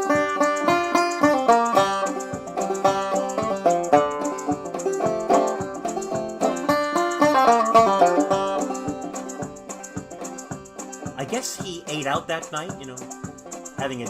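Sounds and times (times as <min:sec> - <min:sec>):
clawhammer banjo playing: 0:00.0 - 0:14.0.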